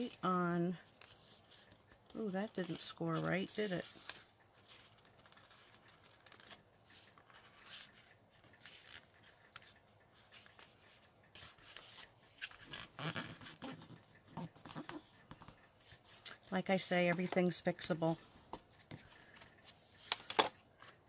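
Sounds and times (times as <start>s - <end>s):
card rustling and scraping: 0.8s - 17.5s, 18.5s - 21.0s.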